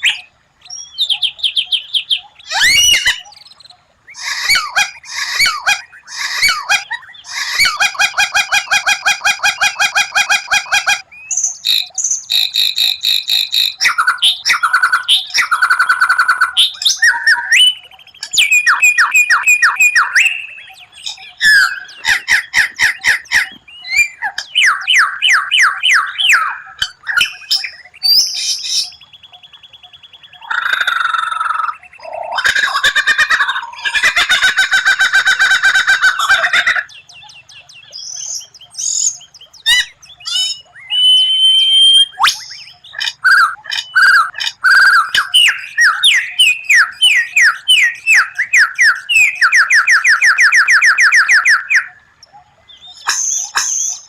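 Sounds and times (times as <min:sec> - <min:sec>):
songbird singing varied song: 0:00.0 - 0:54.0.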